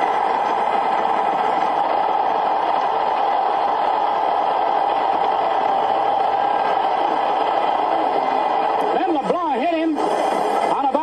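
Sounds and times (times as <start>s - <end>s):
stadium crowd cheering: 0.0s - 11.0s.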